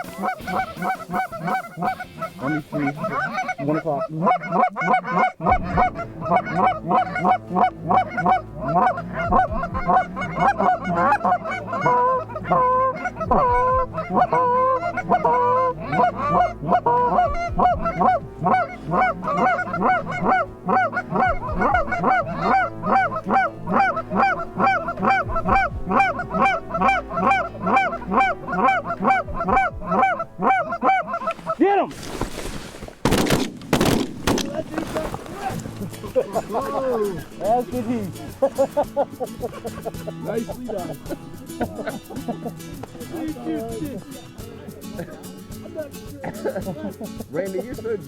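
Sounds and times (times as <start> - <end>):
geese honking: 0.0 - 45.6.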